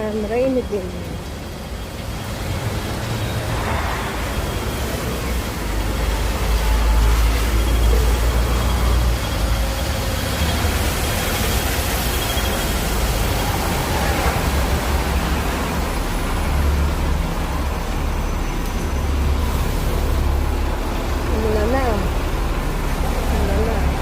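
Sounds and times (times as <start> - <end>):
traffic rumble: 0.0 - 24.0
tyres hissing on wet road: 0.6 - 24.0.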